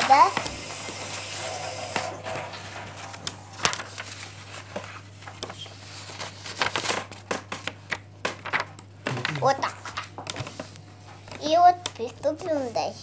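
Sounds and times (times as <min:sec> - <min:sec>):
paper rustling: 0:00.0 - 0:11.4
low steady hum: 0:00.0 - 0:12.7.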